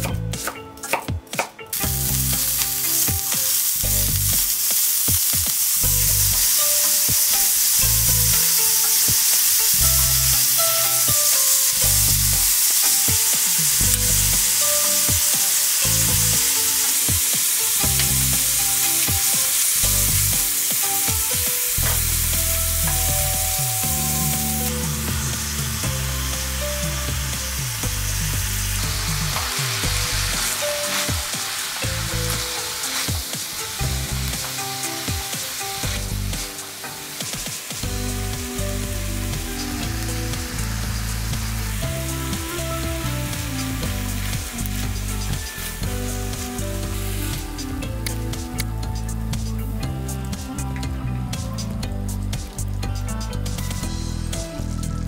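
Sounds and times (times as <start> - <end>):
meat sizzling in a frying pan: 1.7 - 55.0.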